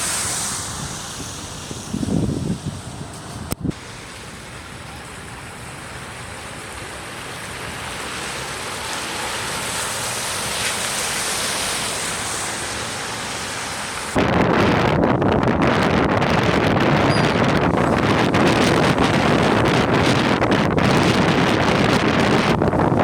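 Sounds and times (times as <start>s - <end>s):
surf: 0.0s - 23.0s
wind: 0.0s - 23.0s.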